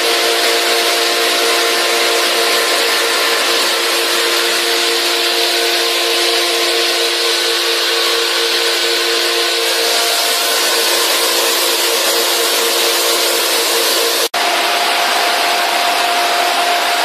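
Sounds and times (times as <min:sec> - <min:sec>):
air blower rushing and humming: 0:00.0 - 0:17.0.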